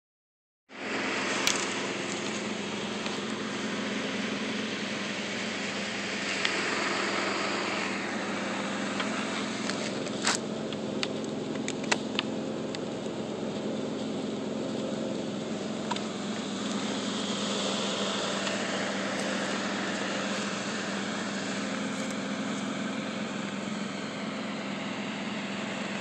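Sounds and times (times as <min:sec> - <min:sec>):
vehicle engine idling: 0:00.7 - 0:26.0.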